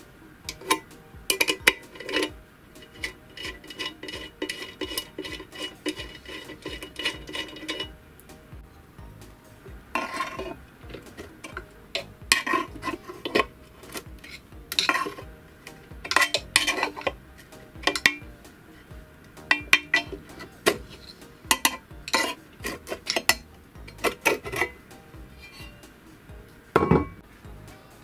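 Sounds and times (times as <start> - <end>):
screwdriver metallic clinks and scrapes: 0.5 - 8.0, 10.0 - 25.9.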